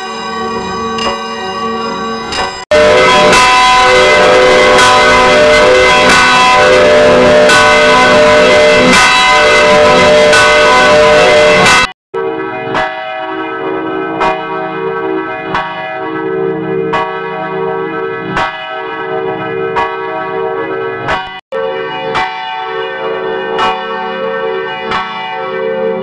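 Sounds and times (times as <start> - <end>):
church bell ringing: 0.0 - 26.0.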